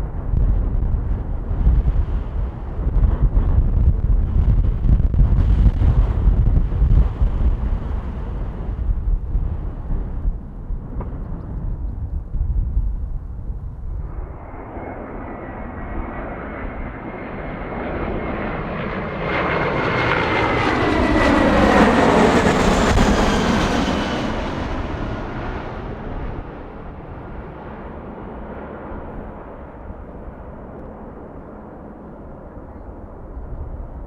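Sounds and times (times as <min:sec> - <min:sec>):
high jet engine whine: 0:00.0 - 0:34.0
jet airliner flying past: 0:00.0 - 0:34.0.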